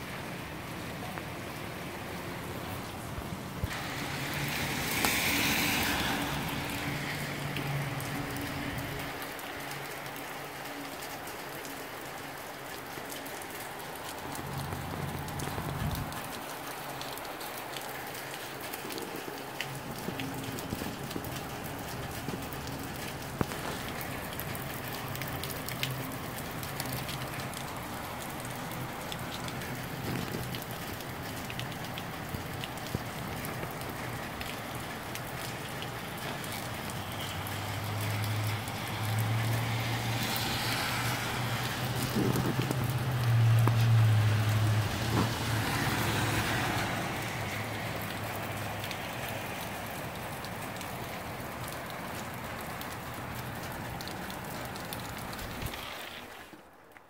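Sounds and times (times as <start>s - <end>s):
rain falling: 0.0s - 57.0s
drips and ticks: 0.1s - 57.0s.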